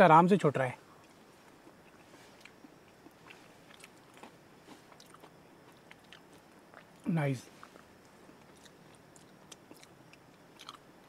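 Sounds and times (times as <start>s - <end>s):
soft chewing: 0.8s - 11.0s.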